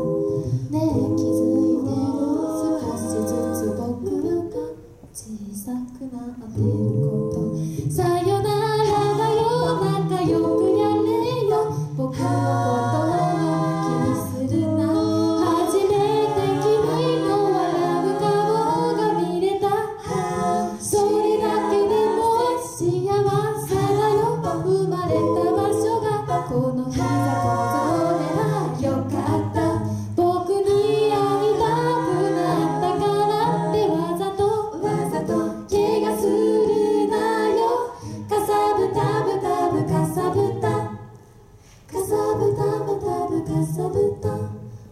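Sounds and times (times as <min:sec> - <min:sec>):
a cappella group singing: 0:00.0 - 0:44.9.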